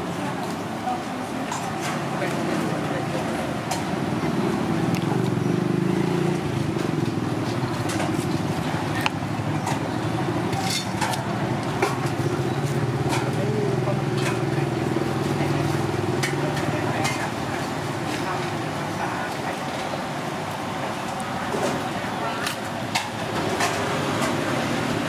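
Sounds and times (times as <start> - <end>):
indistinct voices: 0.0 - 25.0
street traffic rumble: 0.0 - 25.0.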